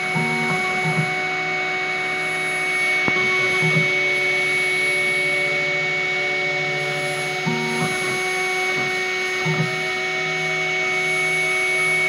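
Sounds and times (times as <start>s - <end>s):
axis drives humming: 0.0s - 10.0s
router spindle high whine: 0.0s - 12.0s.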